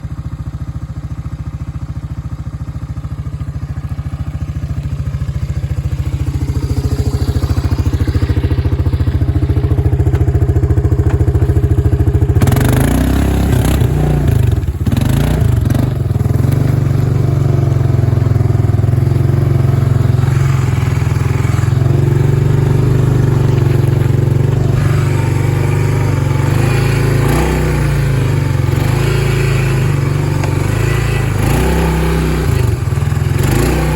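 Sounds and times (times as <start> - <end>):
engine rattling: 0.0 - 33.9
quad bike engine revving: 0.0 - 33.9.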